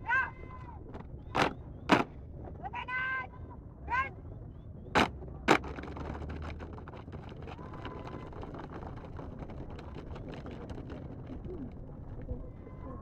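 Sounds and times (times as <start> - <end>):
rustle and shuffle of people: 0.0 - 13.0.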